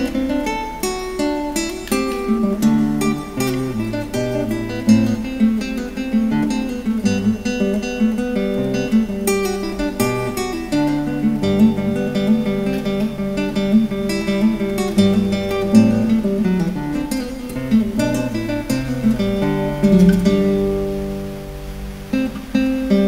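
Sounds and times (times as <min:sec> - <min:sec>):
acoustic guitar tune with bass: 0:00.0 - 0:23.0.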